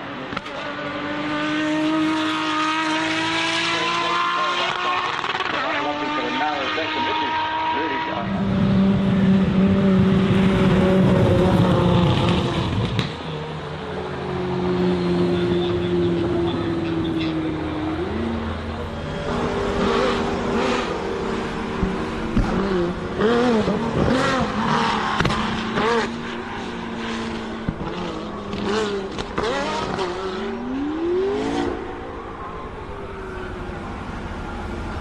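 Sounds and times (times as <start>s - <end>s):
car engine revving: 0.1s - 35.0s.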